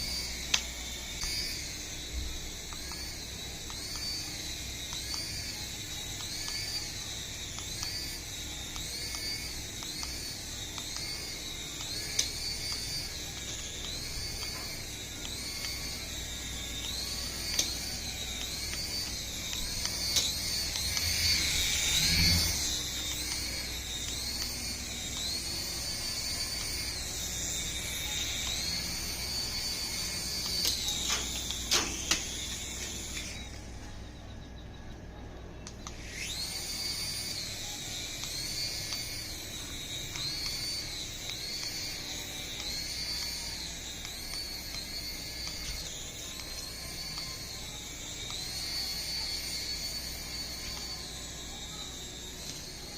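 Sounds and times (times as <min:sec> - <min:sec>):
toy helicopter motors whining: 0:00.0 - 0:52.9.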